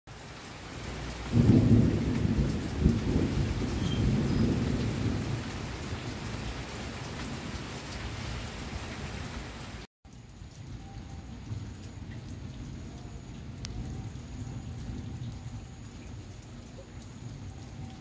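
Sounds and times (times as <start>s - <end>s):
heavy rain: 0.1s - 18.0s
thunder rumbling: 0.8s - 9.3s, 10.7s - 18.0s.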